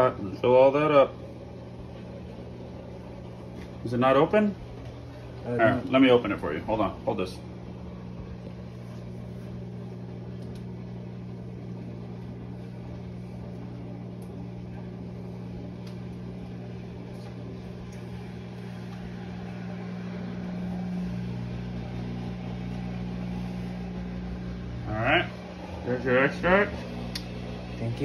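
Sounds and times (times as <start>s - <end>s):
appliance motor hum: 0.0s - 28.0s.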